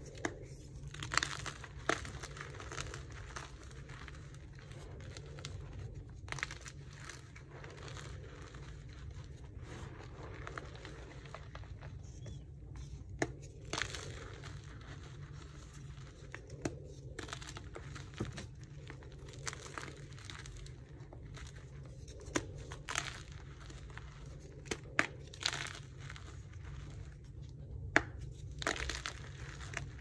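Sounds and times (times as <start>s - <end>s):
chalk crunching and crumbling: 0.0s - 30.0s.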